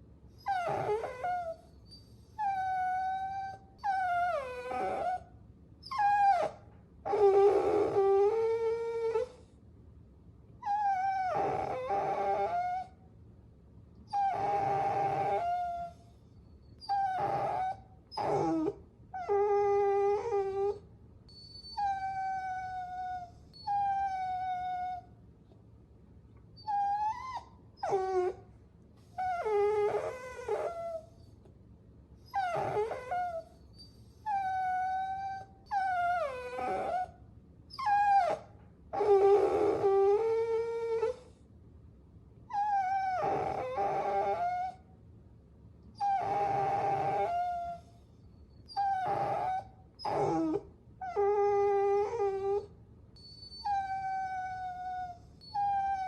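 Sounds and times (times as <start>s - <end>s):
puppies whining: 0.4s - 9.4s, 10.6s - 12.9s, 14.1s - 25.1s, 26.6s - 28.4s, 29.0s - 31.4s, 32.2s - 41.4s, 42.5s - 44.8s, 46.0s - 56.0s.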